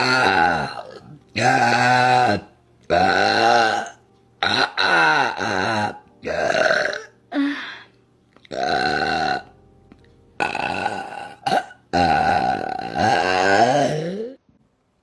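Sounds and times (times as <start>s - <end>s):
woman burping: 0.0s - 7.5s, 8.4s - 9.6s, 10.4s - 14.4s.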